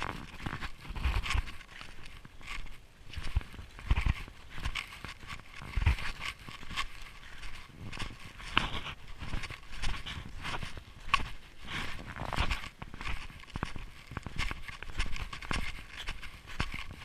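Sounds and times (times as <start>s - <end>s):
snowshoes crunching on snow: 0.0s - 17.0s.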